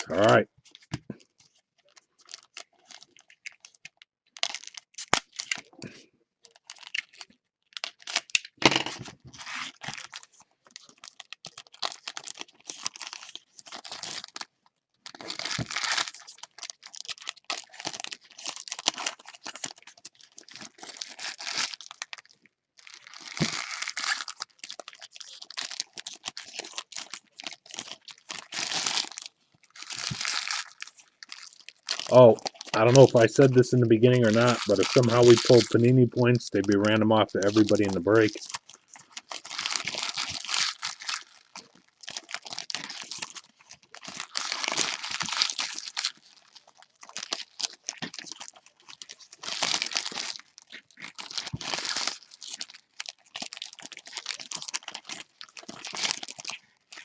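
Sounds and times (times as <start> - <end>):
plastic wrapper crinkling and tearing: 0.0 - 57.0.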